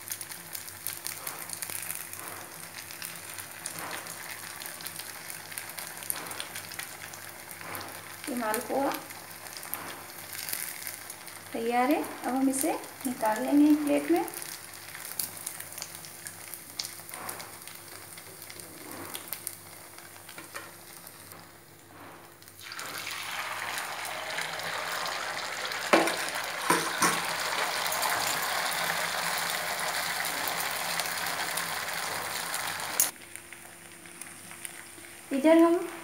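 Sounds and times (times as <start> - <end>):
batter sizzling in hot oil: 0.0 - 36.0.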